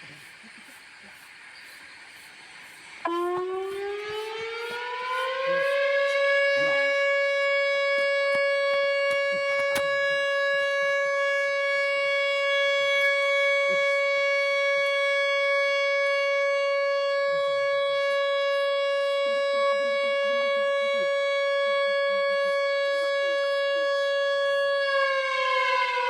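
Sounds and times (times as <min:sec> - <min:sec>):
paper siren steady tone: 0:00.0 - 0:26.0.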